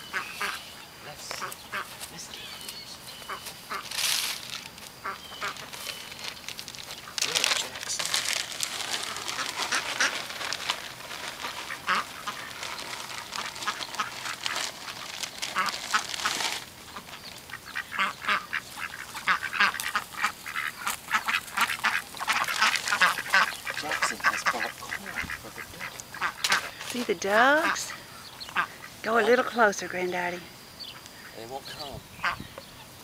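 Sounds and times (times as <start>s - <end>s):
ducks quacking: 0.0s - 4.1s, 5.0s - 6.3s, 6.9s - 33.0s.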